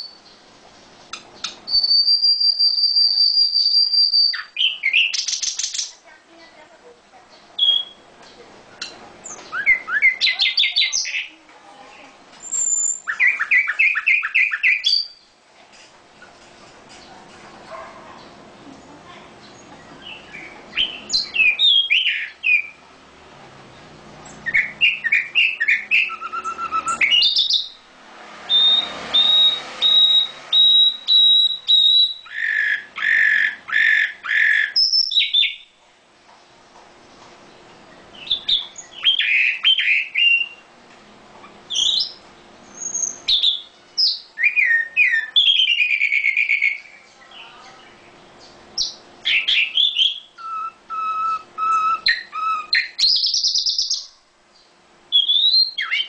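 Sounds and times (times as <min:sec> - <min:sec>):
songbird chirping and trilling: 0:00.0 - 0:15.4, 0:16.2 - 0:40.7, 0:41.4 - 0:56.0.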